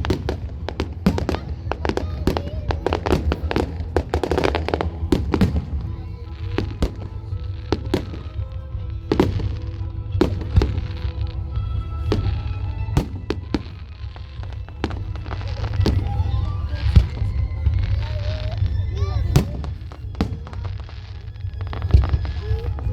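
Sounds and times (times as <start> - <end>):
fireworks bangs: 0.0 - 22.9
fireworks crackle: 0.0 - 22.9
music: 0.0 - 22.9.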